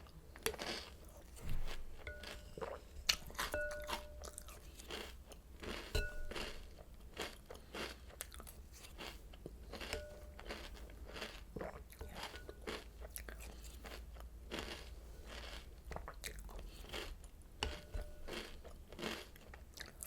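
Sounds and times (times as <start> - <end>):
chewing crunchy cereal: 0.0 - 20.0.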